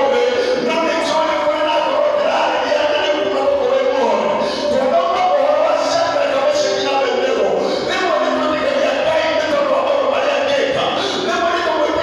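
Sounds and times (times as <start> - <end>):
congregation singing worship song: 0.0 - 12.0.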